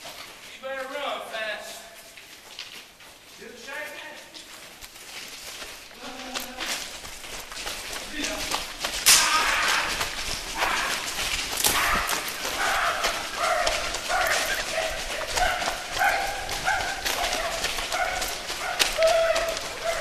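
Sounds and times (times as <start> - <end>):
footsteps crunching on ballast: 0.0 - 20.0.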